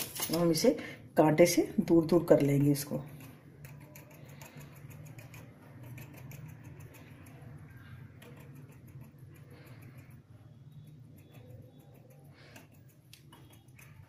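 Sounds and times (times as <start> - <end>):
steady low hum: 0.2 - 14.0
fork tines ticking on dough: 2.6 - 14.0.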